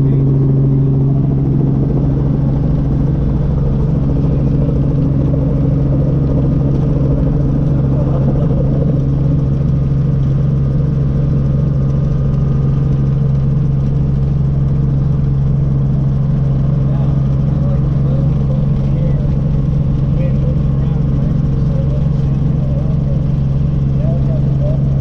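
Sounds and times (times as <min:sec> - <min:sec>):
helicopter engine and rotor drone: 0:00.0 - 0:25.0.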